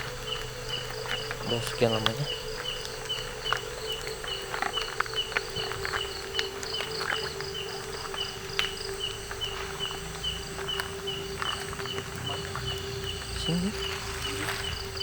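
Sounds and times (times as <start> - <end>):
cricket chirping: 0.0 - 15.0
footsteps on ground: 0.0 - 15.0
insect hum: 0.0 - 15.0.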